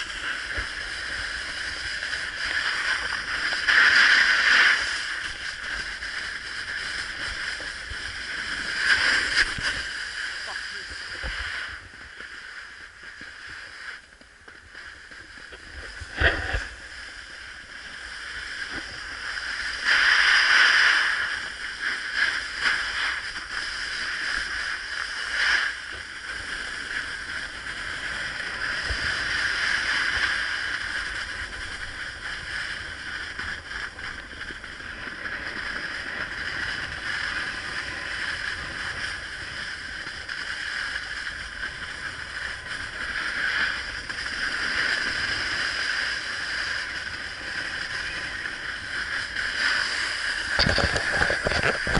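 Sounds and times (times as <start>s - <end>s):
snowboard scraping on snow: 0.0s - 51.9s.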